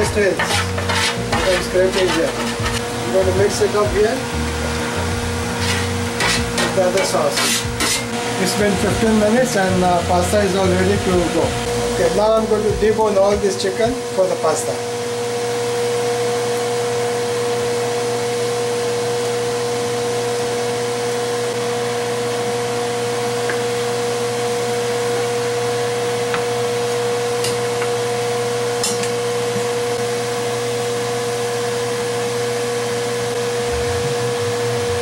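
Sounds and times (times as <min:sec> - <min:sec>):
electric fan motor whirring: 0:00.0 - 0:35.0.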